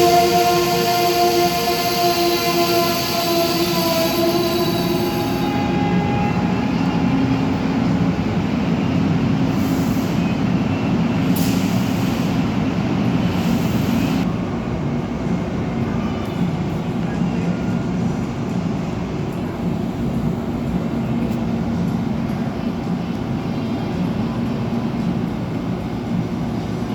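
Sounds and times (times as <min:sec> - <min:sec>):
train wheels rumbling on rail: 0:00.0 - 0:26.9.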